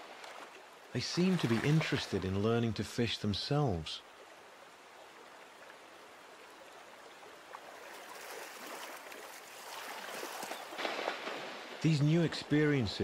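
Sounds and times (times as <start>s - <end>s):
faint water splashes: 0.0s - 13.0s
river flowing over stones: 0.0s - 13.0s.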